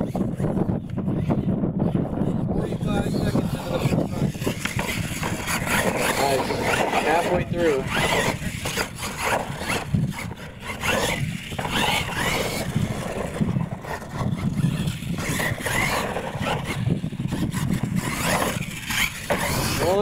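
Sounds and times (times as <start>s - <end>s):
electric motor whining: 0.0s - 20.0s.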